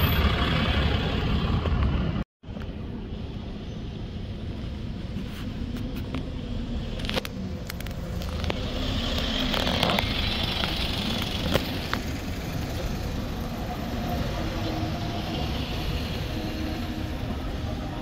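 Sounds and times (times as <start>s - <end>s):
road traffic: 0.0s - 18.0s
bus engine running: 2.8s - 18.0s.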